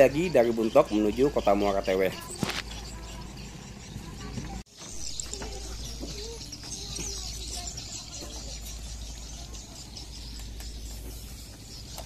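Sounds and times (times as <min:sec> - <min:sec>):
birds chirping: 0:00.0 - 0:12.0
faint voices: 0:00.0 - 0:12.0.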